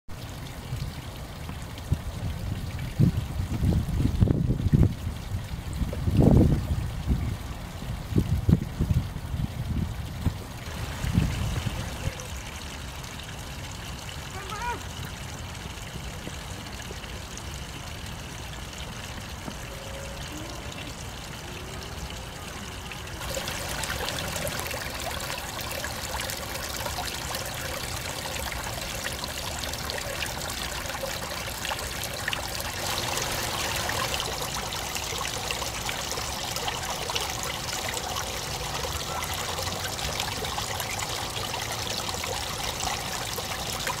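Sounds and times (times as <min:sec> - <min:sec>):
water splashing into pond: 0:00.1 - 0:44.0
water trickling and dripping: 0:00.1 - 0:44.0.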